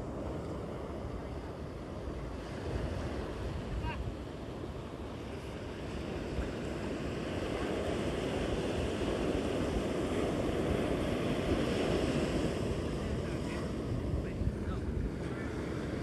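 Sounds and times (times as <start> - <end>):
ocean surf on beach: 0.0 - 16.0
wind rumble on microphone: 0.0 - 16.0.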